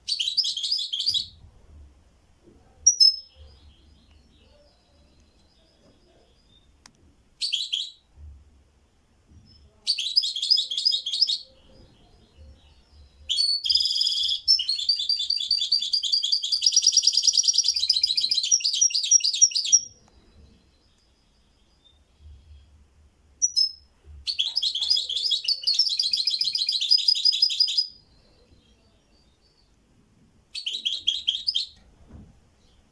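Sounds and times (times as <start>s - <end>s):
songbird singing with trills: 0.1s - 1.4s, 2.9s - 6.8s, 7.4s - 8.0s, 9.4s - 22.7s, 23.4s - 29.8s, 30.5s - 31.8s.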